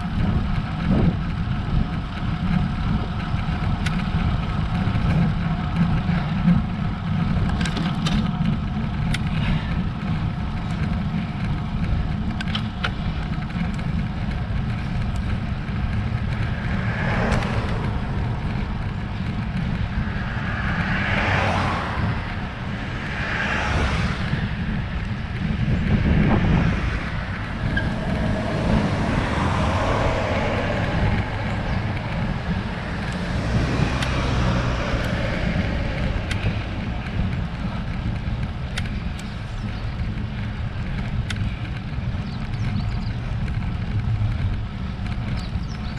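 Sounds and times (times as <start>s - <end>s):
motor vehicles passing: 0.0s - 45.9s
wind and road rumble: 0.0s - 45.9s.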